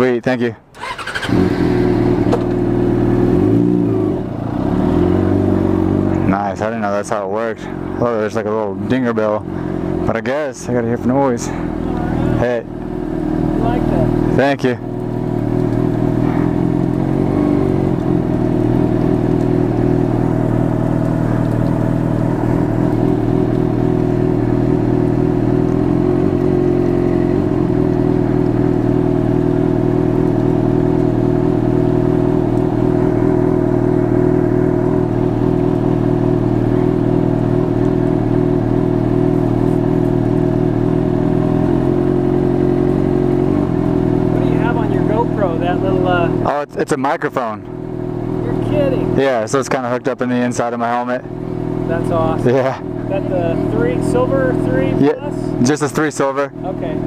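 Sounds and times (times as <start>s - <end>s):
motorcycle engine idling: 0.7s - 46.6s, 47.5s - 49.2s, 50.3s - 57.0s.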